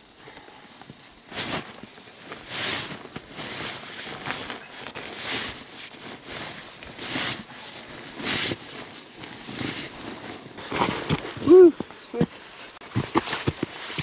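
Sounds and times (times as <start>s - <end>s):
sleeping bag rustling: 0.0s - 14.0s.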